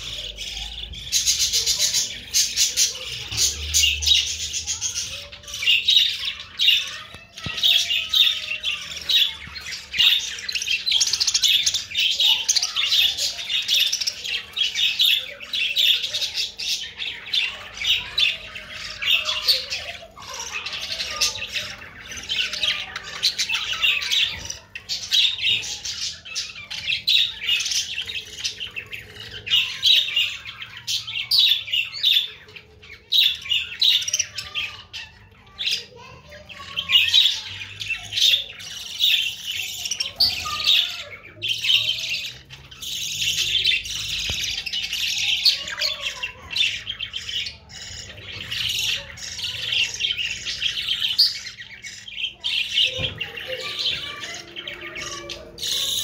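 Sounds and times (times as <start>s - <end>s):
budgerigars chattering and warbling: 0.0s - 56.0s.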